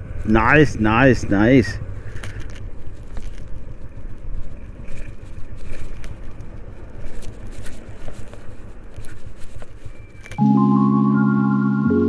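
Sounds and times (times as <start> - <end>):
wind rumble on microphone: 0.0 - 10.4.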